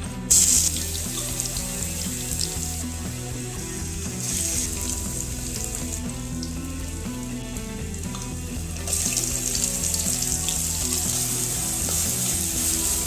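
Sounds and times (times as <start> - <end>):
background music: 0.0 - 13.0
garlic sizzling in a hot pan: 0.3 - 13.0.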